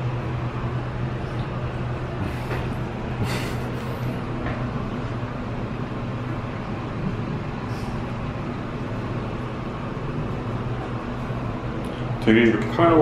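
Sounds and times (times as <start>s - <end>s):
elevator hum and rumble: 0.0s - 13.0s.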